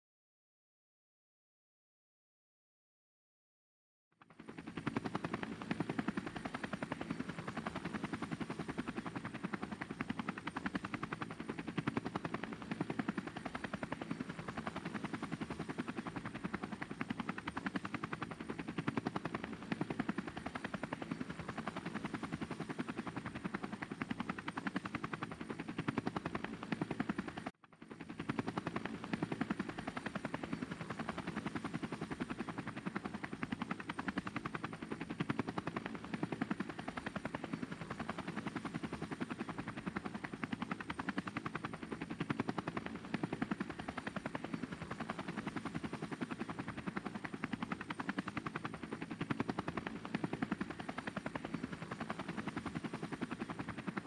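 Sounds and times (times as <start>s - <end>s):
drone propellers and motors: 4.2s - 54.0s.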